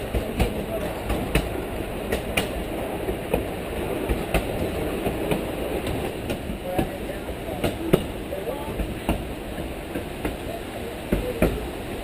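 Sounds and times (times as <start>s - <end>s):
wheels clicking over rail joints: 0.0s - 11.8s
train wheels rumbling on rails: 0.0s - 12.0s.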